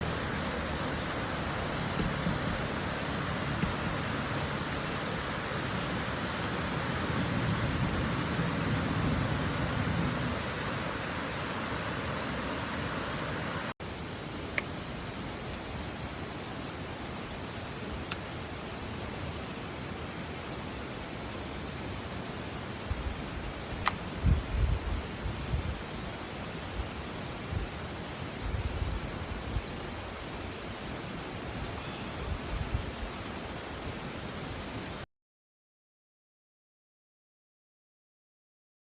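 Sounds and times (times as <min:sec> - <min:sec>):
stream murmuring over rocks: 0:00.0 - 0:35.0.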